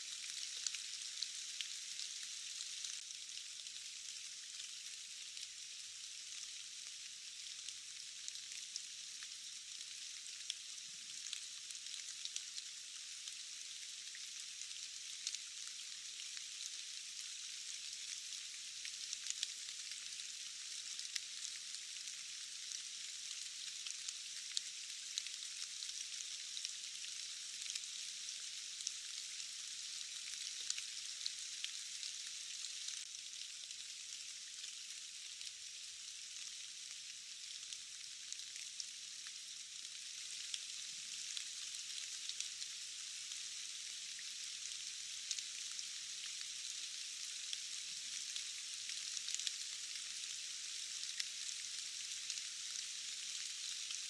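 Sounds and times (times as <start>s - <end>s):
steady rain hiss: 0.0s - 54.0s
rain drops ticking: 6.3s - 54.0s.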